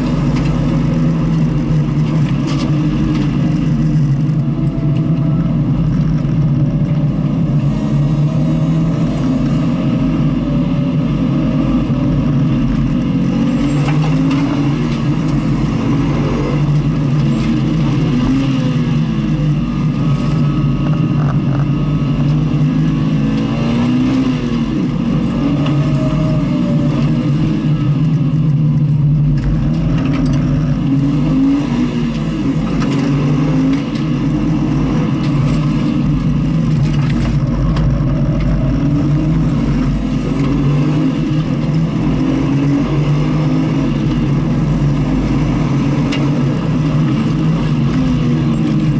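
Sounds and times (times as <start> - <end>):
car engine revving: 0.0 - 48.9
road and wind noise: 0.0 - 48.9.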